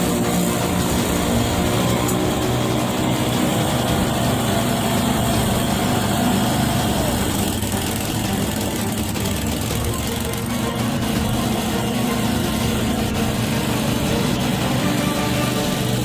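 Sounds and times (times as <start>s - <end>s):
riding lawn mower engine running: 0.0s - 16.0s.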